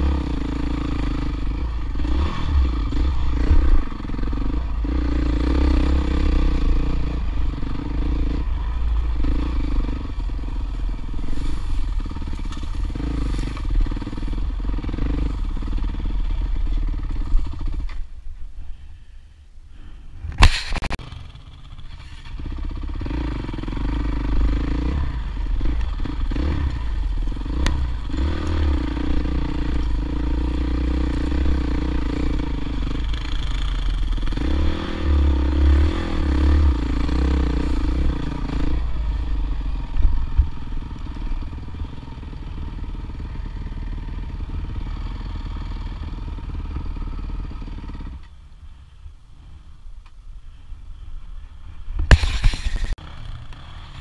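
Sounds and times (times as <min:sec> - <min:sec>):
dirt bike engine revving: 0:00.0 - 0:17.8, 0:21.0 - 0:48.2.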